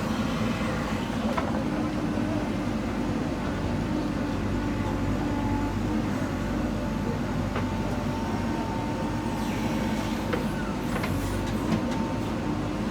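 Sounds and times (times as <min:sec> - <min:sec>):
diesel engine low drone: 0:00.0 - 0:12.9.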